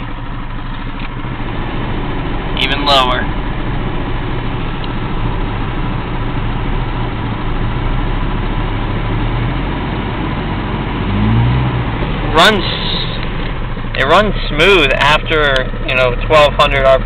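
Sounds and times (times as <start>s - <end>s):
car engine idling choppy: 0.0s - 17.0s.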